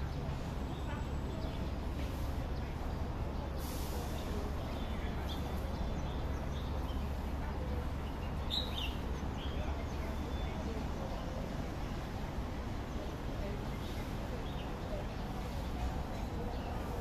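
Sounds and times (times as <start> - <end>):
low urban rumble: 0.0 - 17.0.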